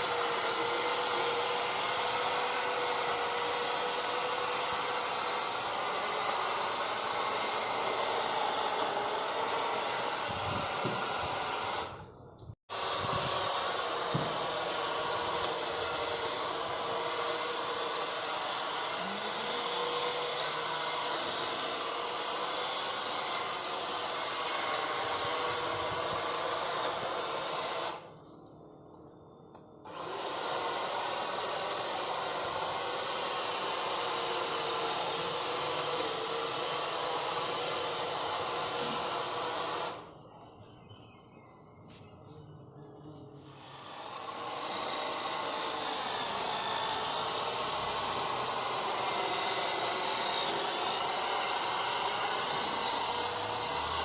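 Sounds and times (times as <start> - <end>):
electric hedge trimmer whirring: 0.0 - 12.0, 12.7 - 28.1, 29.8 - 40.2, 43.4 - 54.0.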